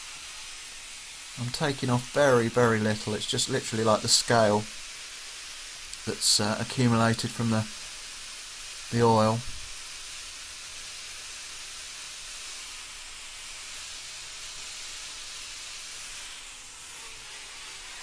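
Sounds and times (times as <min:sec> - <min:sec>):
angle grinder sanding metal: 0:00.0 - 0:18.0.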